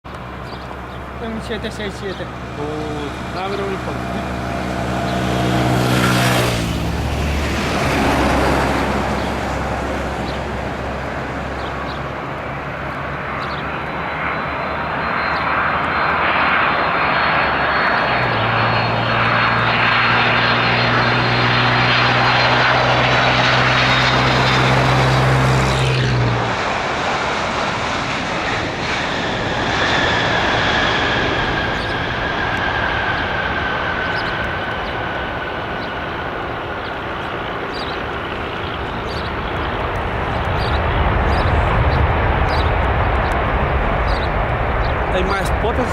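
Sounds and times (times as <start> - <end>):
jet engines roaring past: 0.0 - 45.9
high engine whine falling in pitch: 0.1 - 45.9.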